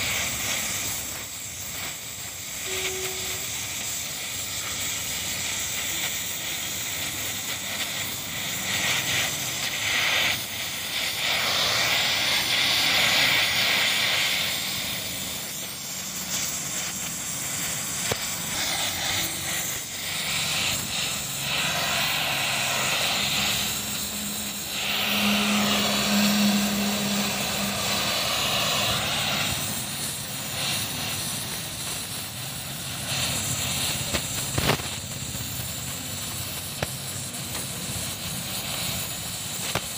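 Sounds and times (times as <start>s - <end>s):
welding torch flame hissing: 0.0s - 39.9s.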